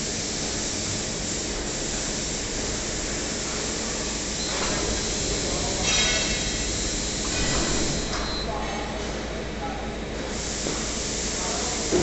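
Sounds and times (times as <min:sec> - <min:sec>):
hissing machine noise: 0:00.0 - 0:12.0.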